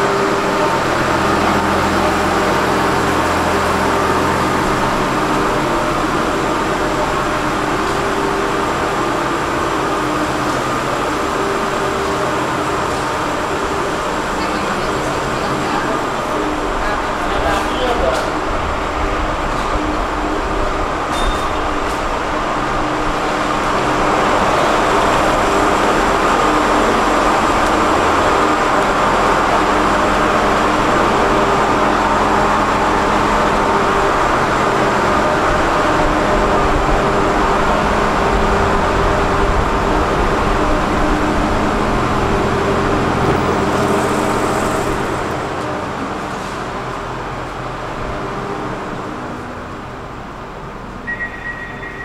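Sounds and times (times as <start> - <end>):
electric train rumble and hum: 0.0 - 52.0.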